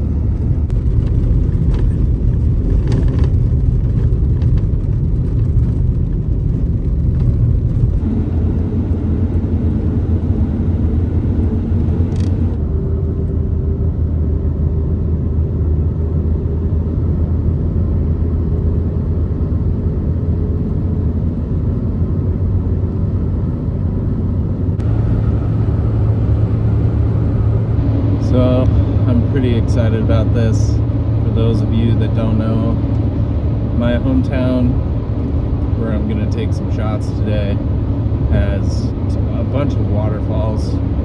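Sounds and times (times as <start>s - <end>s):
truck engine and road rumble: 0.0s - 41.0s.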